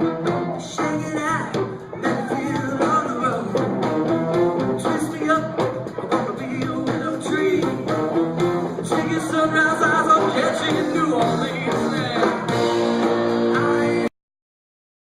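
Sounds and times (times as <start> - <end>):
electric guitar: 0.0 - 14.1
live rock band playing: 0.0 - 14.1.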